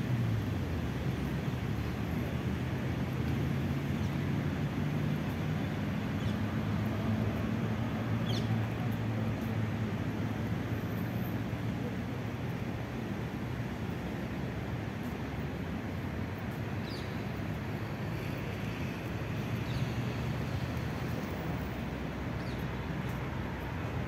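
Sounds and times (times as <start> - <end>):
distant traffic: 0.0 - 24.0
wind: 0.0 - 24.0.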